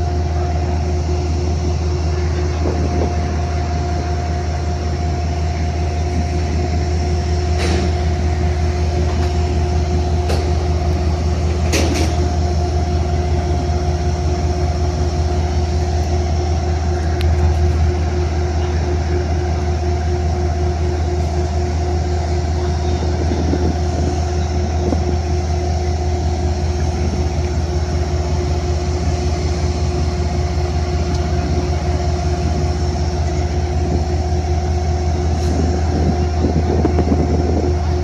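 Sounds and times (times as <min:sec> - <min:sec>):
diesel train droning: 0:00.0 - 0:38.0.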